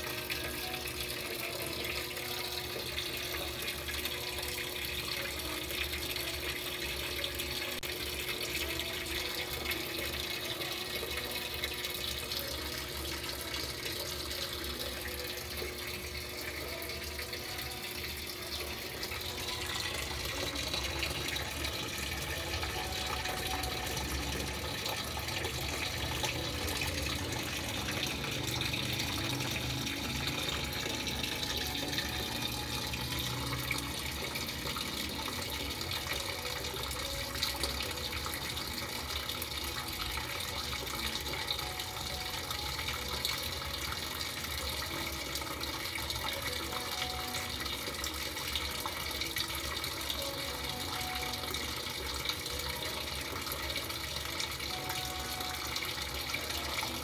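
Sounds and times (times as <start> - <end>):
water pouring into washing machine: 0.0 - 57.0.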